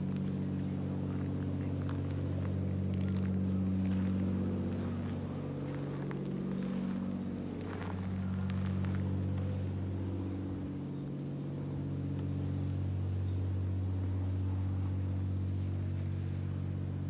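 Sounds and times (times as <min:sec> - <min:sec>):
engine idling drone: 0:00.0 - 0:17.0.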